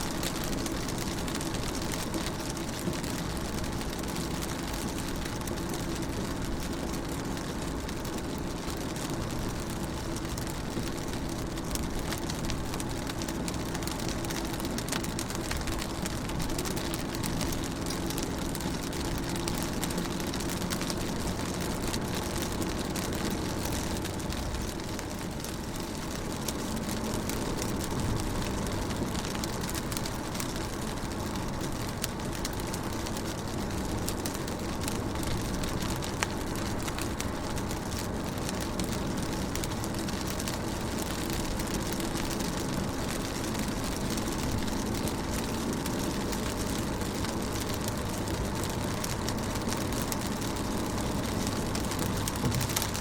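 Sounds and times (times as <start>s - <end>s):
rain on a window: 0.0s - 53.0s.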